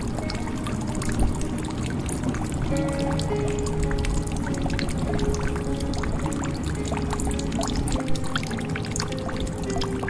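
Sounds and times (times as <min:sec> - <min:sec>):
soft background music: 0:00.0 - 0:10.0
water drips: 0:00.0 - 0:10.0
water pouring into a jug: 0:00.0 - 0:10.0.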